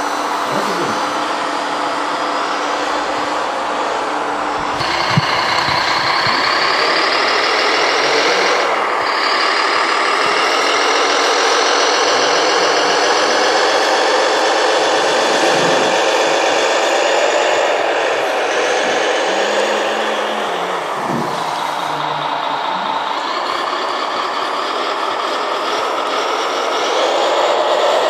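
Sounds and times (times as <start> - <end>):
model motor whine: 0.0 - 28.0.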